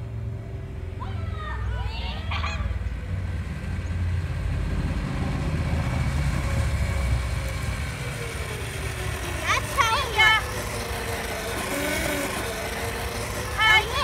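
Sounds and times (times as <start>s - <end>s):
outdoor background rumble and hiss: 0.0s - 14.0s.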